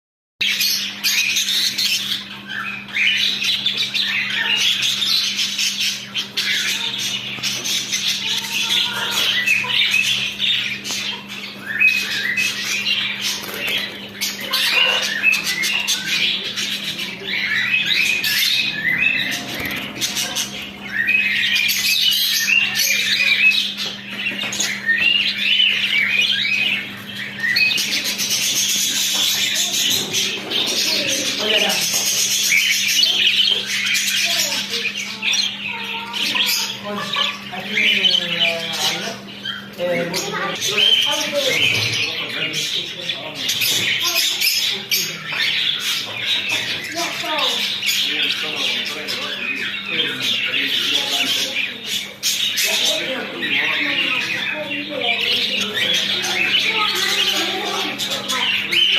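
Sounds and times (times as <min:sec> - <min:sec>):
budgies chattering: 0:00.4 - 0:58.9.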